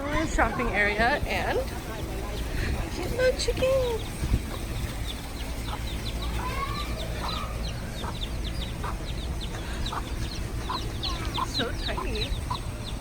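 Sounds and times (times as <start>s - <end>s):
low steady rumble: 0.0s - 13.0s
chicks peeping: 0.1s - 13.0s.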